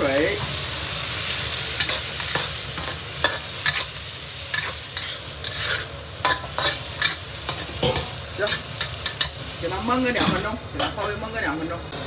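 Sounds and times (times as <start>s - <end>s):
liquid hissing in a hot wok: 0.0s - 12.0s
steady sizzle: 0.0s - 12.0s
metal spatula scraping a wok: 0.4s - 11.2s.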